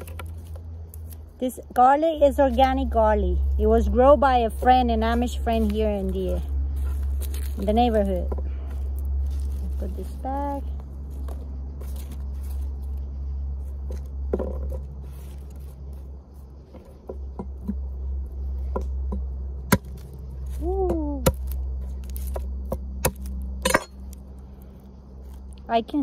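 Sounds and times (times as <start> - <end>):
low hum: 0.0 - 26.0
rustling of garlic skins: 0.0 - 26.0.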